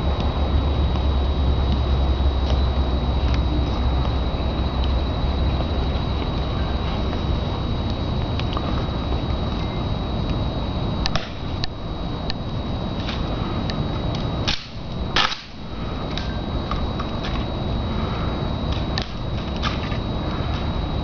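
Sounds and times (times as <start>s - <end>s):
steady background rush: 0.0s - 21.0s.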